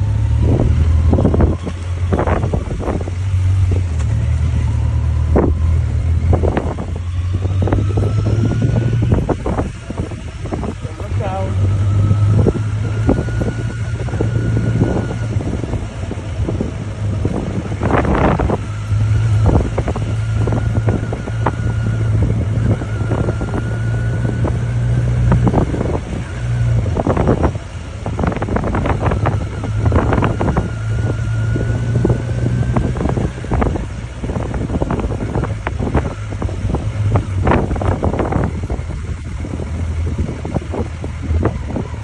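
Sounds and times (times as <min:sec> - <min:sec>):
motorcycle engine cruising: 0:00.0 - 0:42.0
wind buffeting microphone: 0:00.0 - 0:42.0.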